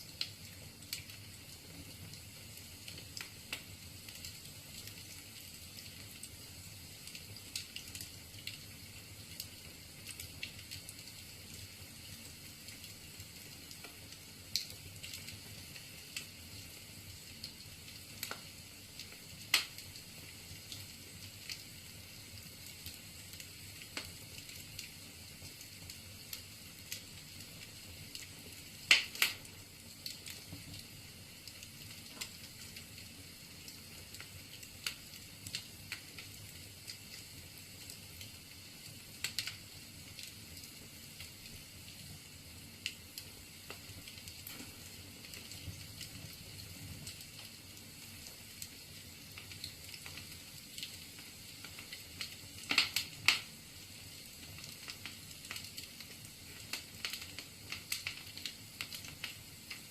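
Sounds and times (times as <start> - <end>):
fire pops and snaps: 0.0 - 42.1, 42.8 - 59.9
wood fire crackling: 0.0 - 59.9.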